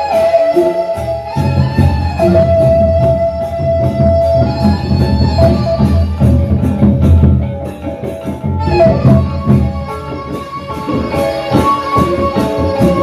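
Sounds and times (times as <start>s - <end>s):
big barrel drums beating: 0.0s - 13.0s.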